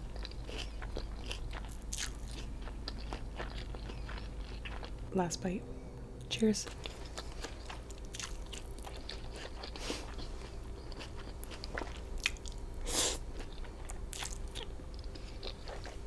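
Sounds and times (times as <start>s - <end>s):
close chewing with wet crunches: 0.0s - 5.1s, 6.6s - 16.0s.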